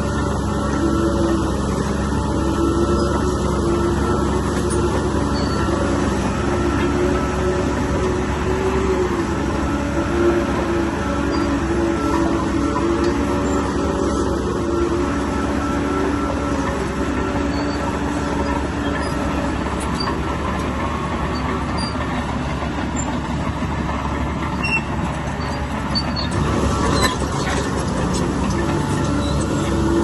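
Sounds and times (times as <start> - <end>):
bulldozer diesel engine: 0.0 - 30.0
steel tracks clanking and squealing: 0.0 - 30.0.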